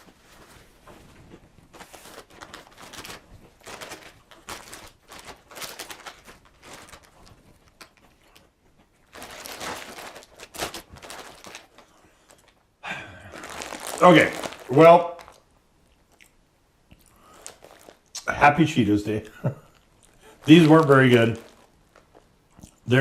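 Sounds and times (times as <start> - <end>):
snack bag rustling: 0.0 - 23.0
crunchy snack being chewed: 2.2 - 12.6, 13.3 - 18.2, 19.7 - 22.9.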